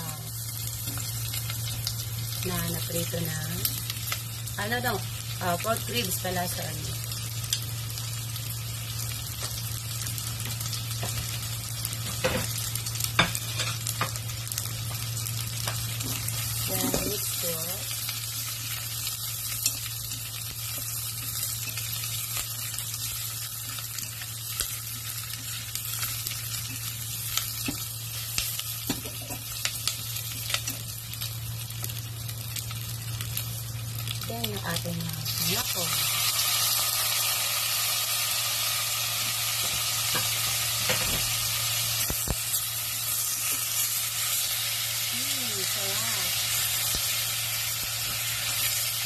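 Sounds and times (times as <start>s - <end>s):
meat sizzling in a pan: 0.0s - 49.0s.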